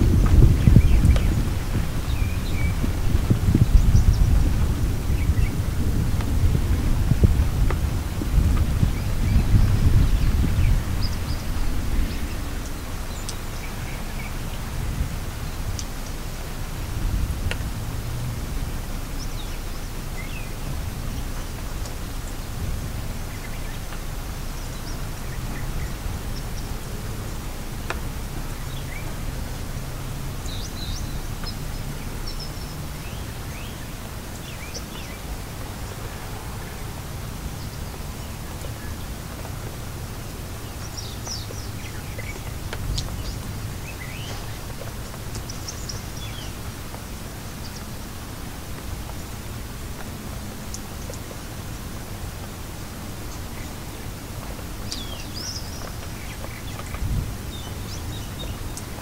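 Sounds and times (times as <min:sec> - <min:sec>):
birds chirping: 0:00.0 - 0:49.3, 0:50.0 - 0:59.0
steady rain: 0:00.0 - 0:59.0.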